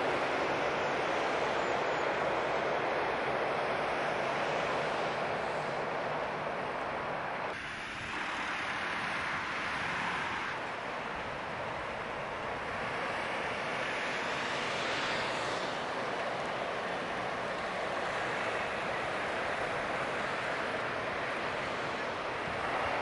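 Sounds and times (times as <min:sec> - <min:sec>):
road traffic noise: 0:00.0 - 0:23.0
train crossing a steel bridge: 0:00.0 - 0:23.0.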